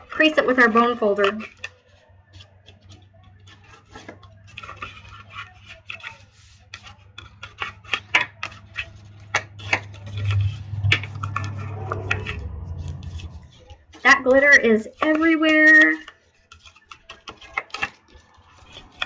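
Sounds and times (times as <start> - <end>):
bone folder rubbing cardstock: 0.0 - 19.0
paper scraping: 0.0 - 19.0.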